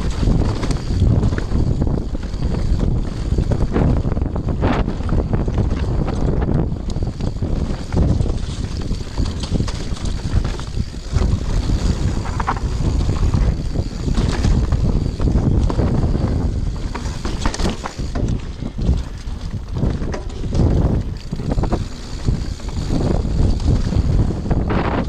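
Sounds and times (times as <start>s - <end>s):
bike rattling and knocking: 0.0s - 25.0s
bike tyres rumbling on dirt trail: 0.0s - 25.0s
wind buffeting microphone: 0.0s - 25.0s.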